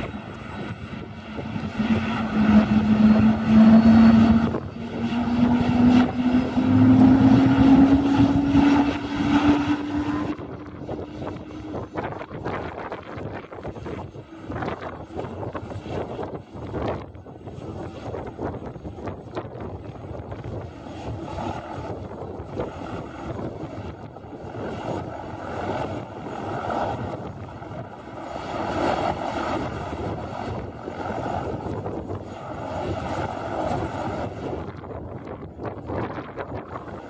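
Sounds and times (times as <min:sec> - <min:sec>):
helicopter rotor turning slowly: 0:00.0 - 0:37.0
helicopter turbine engine running: 0:00.0 - 0:37.0
wind gusting on microphone: 0:00.0 - 0:37.0.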